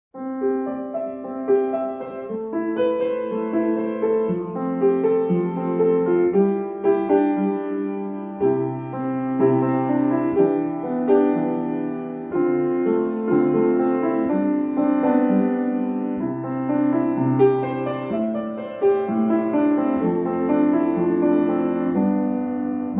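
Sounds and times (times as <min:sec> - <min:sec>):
gentle piano melody: 0:00.2 - 0:22.9.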